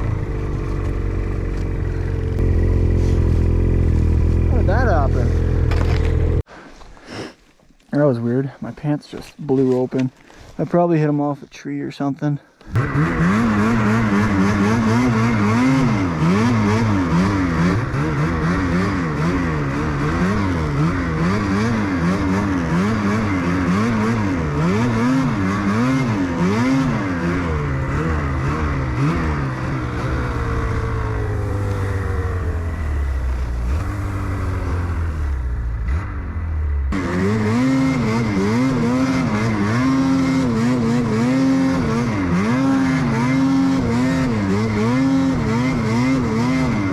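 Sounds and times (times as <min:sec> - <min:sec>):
snowmobile engine revving: 0:00.0 - 0:06.4, 0:12.6 - 0:46.9.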